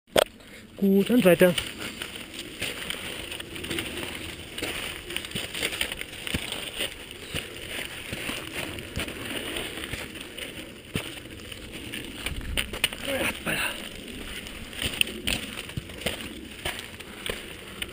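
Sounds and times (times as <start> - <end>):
footsteps on stony trail: 0.2 - 17.9
rustling: 0.8 - 17.9.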